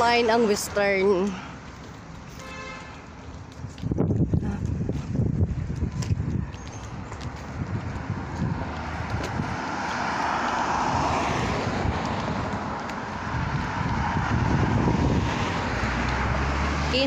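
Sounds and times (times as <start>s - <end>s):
cars passing: 0.0s - 17.0s
wind rumbling on microphone: 3.2s - 17.0s.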